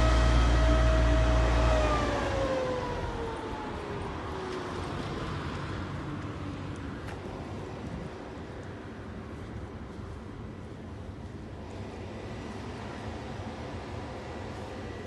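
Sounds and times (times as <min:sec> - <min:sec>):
train rumble and whine: 0:00.0 - 0:15.0.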